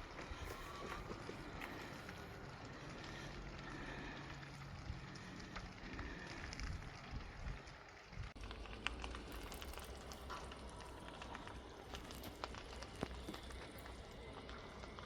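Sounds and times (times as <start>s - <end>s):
fire crackling and popping: 0.0s - 15.0s
grass fire hissing: 0.0s - 15.0s
low rumble: 0.0s - 15.0s.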